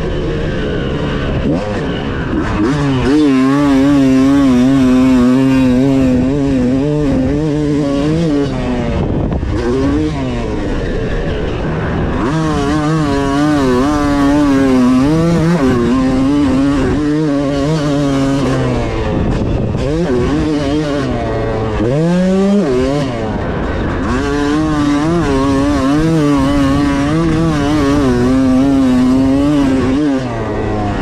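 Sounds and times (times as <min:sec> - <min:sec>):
two-stroke motorcycle engine revving: 0:00.0 - 0:31.0.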